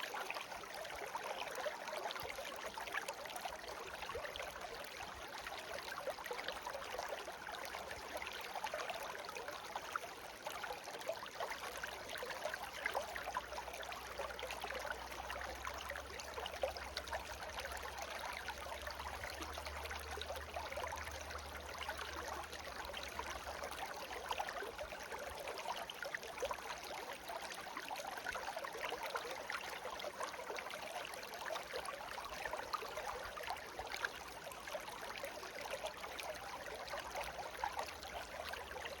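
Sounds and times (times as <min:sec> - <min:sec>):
stream babbling: 0:00.0 - 0:39.0.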